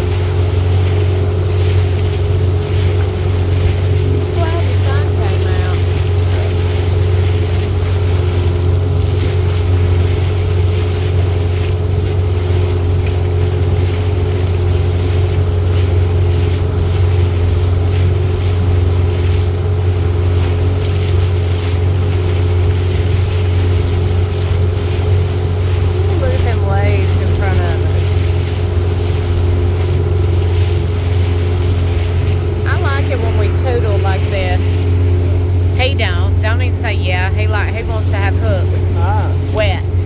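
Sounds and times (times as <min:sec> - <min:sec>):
boat motor running: 0:00.0 - 0:40.0.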